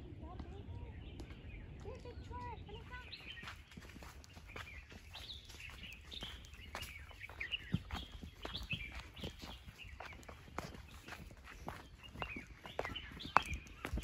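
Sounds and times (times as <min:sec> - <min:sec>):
small birds chirping: 0:00.0 - 0:14.0
footsteps on leafy dirt path: 0:02.0 - 0:14.0.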